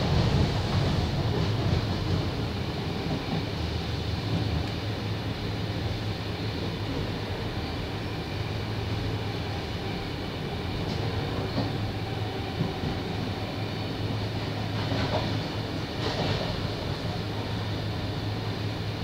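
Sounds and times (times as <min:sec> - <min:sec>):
electric train hum and rumble: 0:00.0 - 0:19.0.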